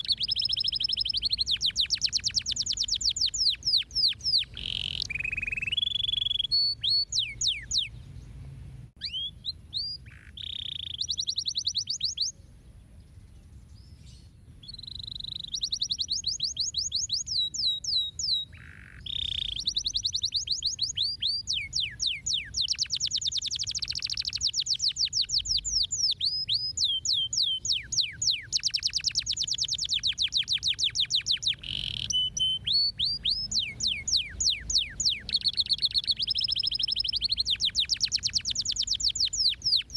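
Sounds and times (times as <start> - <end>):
canary singing trills: 0.0 - 8.4, 9.0 - 39.9.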